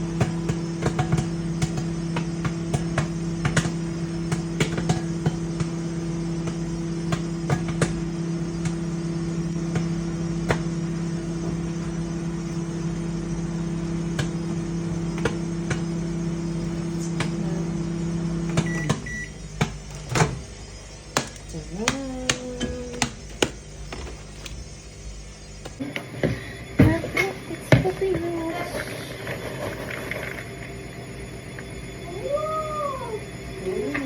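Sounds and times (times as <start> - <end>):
microwave beep: 0.0 - 24.5, 25.3 - 34.0
popcorn popping: 0.0 - 30.6
microwave oven humming: 0.0 - 34.0.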